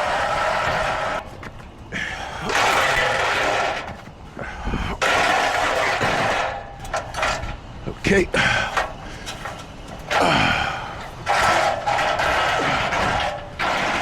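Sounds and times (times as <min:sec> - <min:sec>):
hvac unit whirring: 0:00.0 - 0:14.0.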